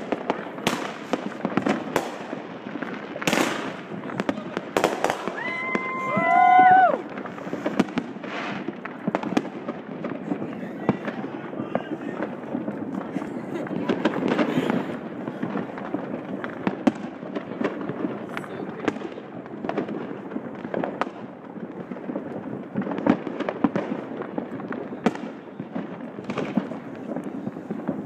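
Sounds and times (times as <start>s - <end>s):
firework bangs and pops: 0.0s - 28.0s.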